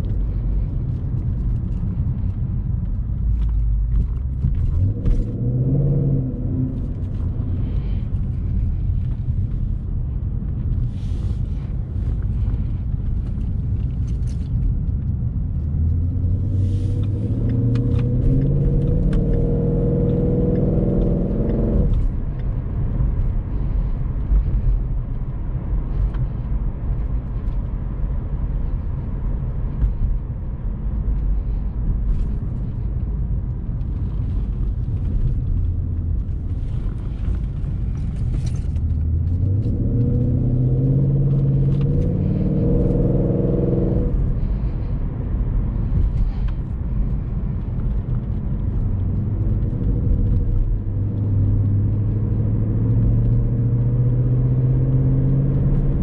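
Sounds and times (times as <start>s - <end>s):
car engine heard from cabin: 0.0s - 56.0s
road noise: 0.0s - 56.0s.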